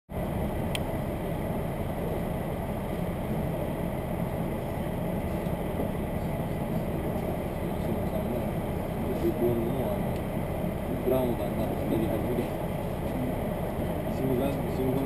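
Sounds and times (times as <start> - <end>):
railcar engine rumble: 0.1 - 15.0.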